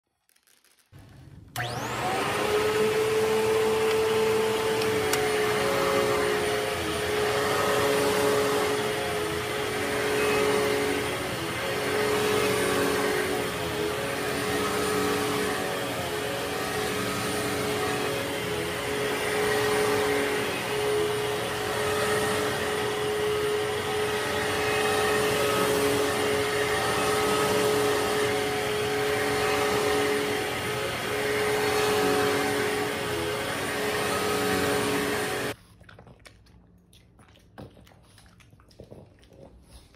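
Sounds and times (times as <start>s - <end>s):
vacuum cleaner motor whining: 1.0s - 35.6s.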